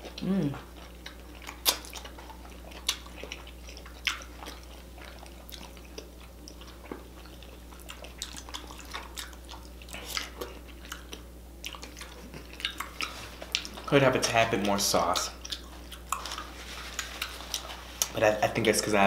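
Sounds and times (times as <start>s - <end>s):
wet chewing and slurping: 0.0s - 18.2s.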